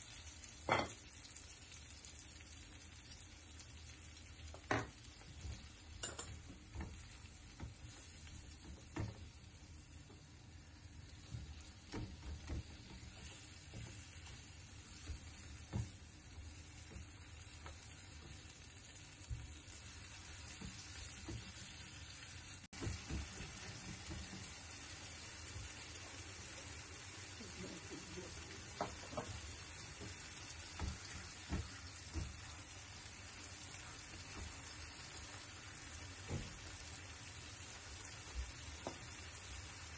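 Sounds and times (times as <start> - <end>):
eggplant sizzling in a pan: 0.0 - 39.9.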